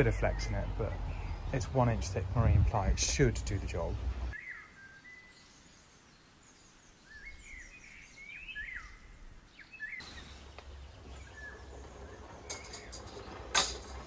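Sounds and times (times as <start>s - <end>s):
small birds chirping: 0.0s - 13.6s
faint outdoor background noise: 0.0s - 14.0s.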